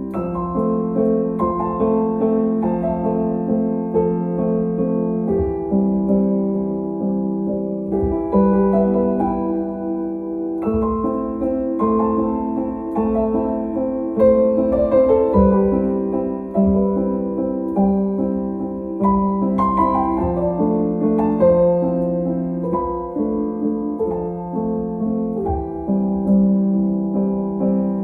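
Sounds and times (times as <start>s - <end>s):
slow piano chords: 0.0s - 28.0s.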